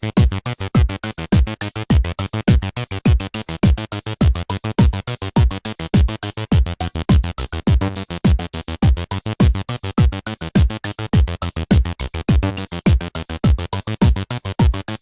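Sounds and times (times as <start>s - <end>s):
drum machine kick pattern: 0.0s - 15.0s
acid bass synth line: 0.2s - 15.0s.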